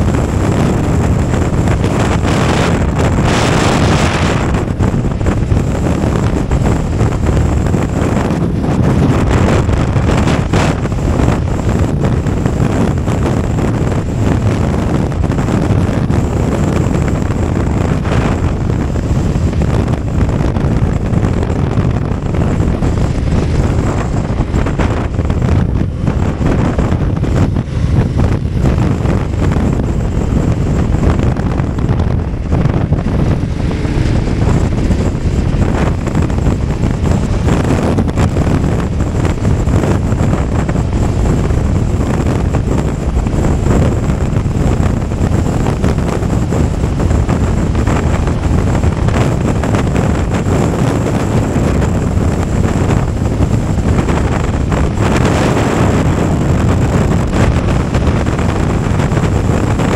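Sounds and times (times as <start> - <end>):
motorcycle road and engine noise: 0.0 - 59.9
wind buffeting microphone: 0.0 - 59.9.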